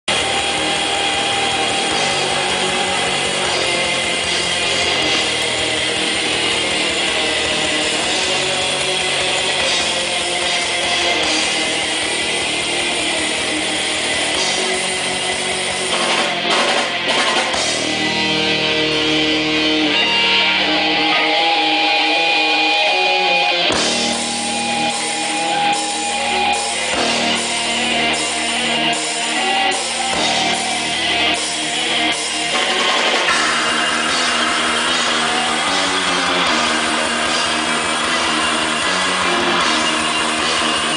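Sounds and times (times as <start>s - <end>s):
bass guitar: 0.0s - 40.9s
distorted electric guitars: 0.0s - 40.9s
drum kit: 0.0s - 40.9s.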